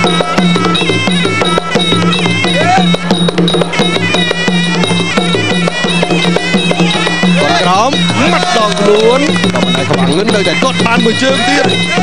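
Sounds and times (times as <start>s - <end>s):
drums beating: 0.0s - 12.0s
reed pipe melody: 0.0s - 12.0s.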